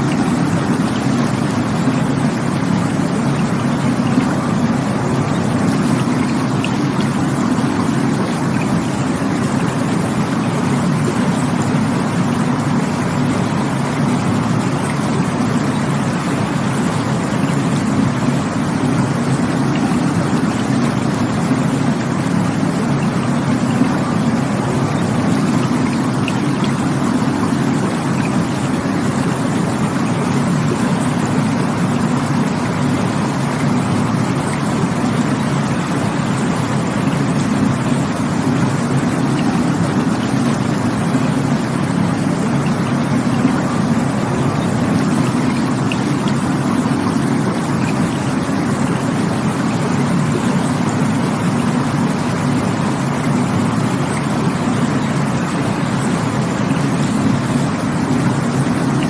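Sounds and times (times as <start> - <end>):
stream rushing over falls: 0.0 - 59.0.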